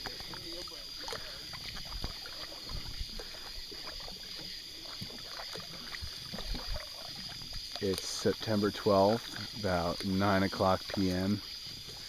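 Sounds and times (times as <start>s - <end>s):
canoe paddles splashing: 0.0s - 12.0s
night insects chorus: 0.0s - 12.0s.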